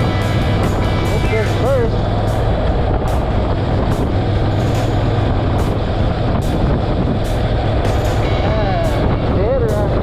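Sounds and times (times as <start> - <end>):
motorcycle engine hum: 0.0 - 10.0
wet road noise: 0.0 - 10.0
wind noise: 0.0 - 10.0.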